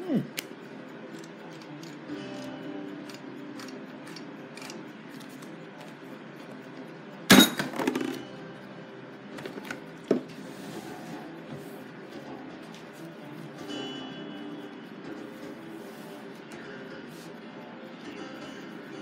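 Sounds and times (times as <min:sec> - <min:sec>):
soft radio music: 0:00.0 - 0:19.0.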